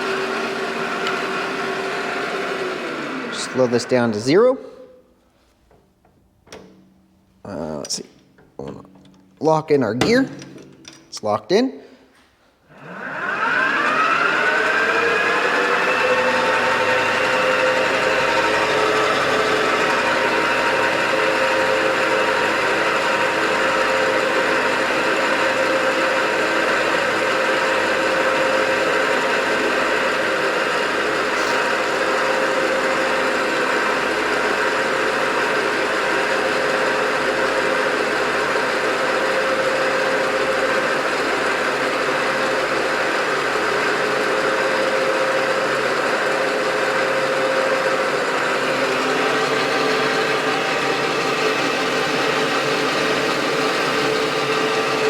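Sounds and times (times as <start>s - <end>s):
metal lathe motor and gear whine: 0.0s - 4.3s, 12.7s - 55.0s.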